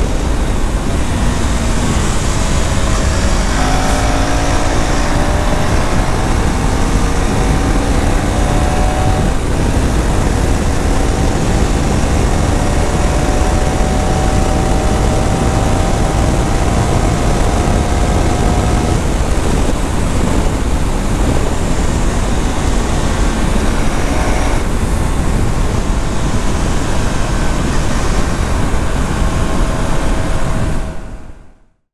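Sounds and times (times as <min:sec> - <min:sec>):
wind rush: 0:00.0 - 0:31.5
motorcycle engine and exhaust: 0:00.0 - 0:31.6.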